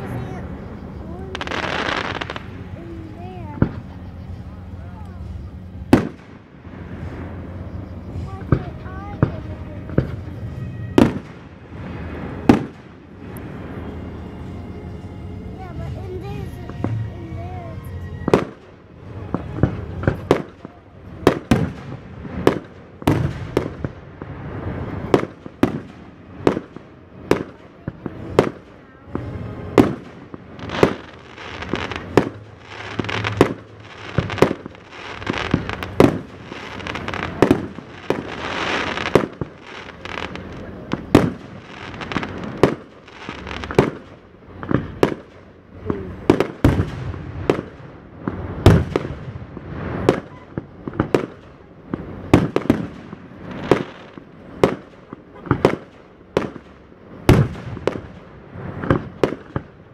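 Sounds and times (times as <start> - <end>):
fireworks bangs: 0.0 - 14.6, 15.8 - 59.9
fireworks fizzing and crackling: 0.0 - 59.9.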